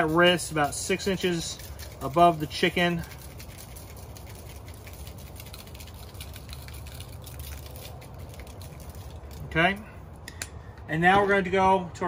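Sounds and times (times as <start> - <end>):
granules pattering onto meat: 0.0 - 9.9
seasoning shaken from shaker bottle: 0.0 - 9.9.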